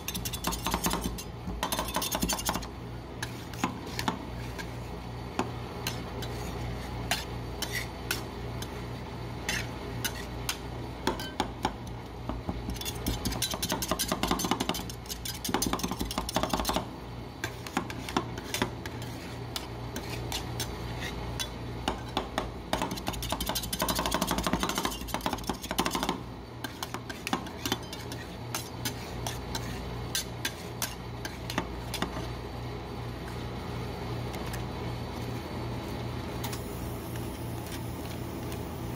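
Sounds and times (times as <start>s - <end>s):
spatulas chopping ice cream: 0.0s - 32.3s
steady low hum: 0.0s - 38.9s.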